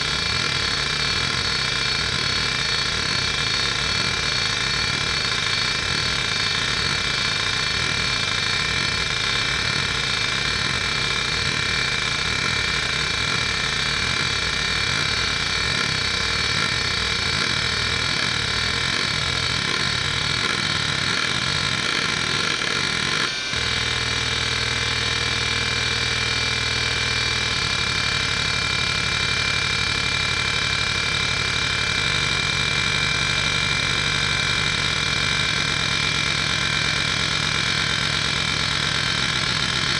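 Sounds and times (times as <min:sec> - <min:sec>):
hard drive high whine: 0:00.0 - 0:39.9
hard drive seek chatter: 0:00.0 - 0:39.9.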